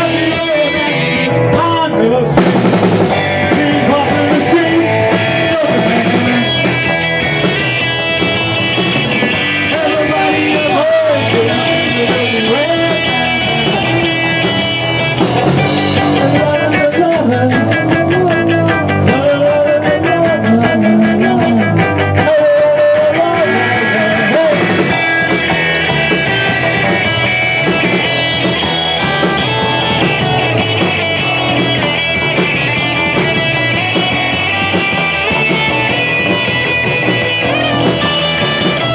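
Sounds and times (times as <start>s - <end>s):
man singing: 0.0s - 7.5s, 9.3s - 36.4s
live rock band playing: 0.0s - 38.9s.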